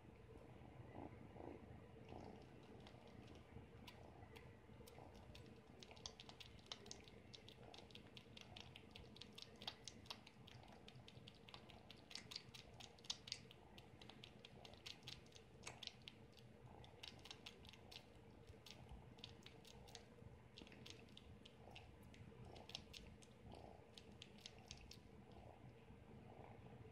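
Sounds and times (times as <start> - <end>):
kitten suckling wet clicks: 2.1 - 25.5.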